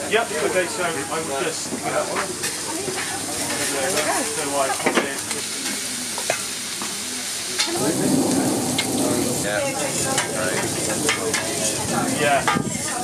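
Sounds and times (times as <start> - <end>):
food sizzling on a griddle: 0.0 - 13.0
low background murmur: 0.0 - 13.0.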